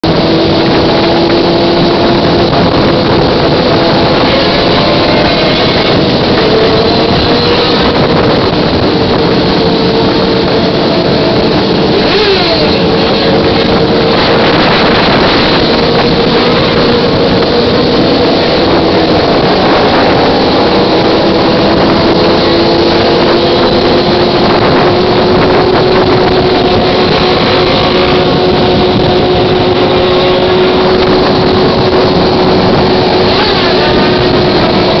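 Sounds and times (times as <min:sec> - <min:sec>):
motorcycle engine pitch sweep: 0:00.0 - 0:35.0
motorcycle engines droning: 0:00.0 - 0:35.0.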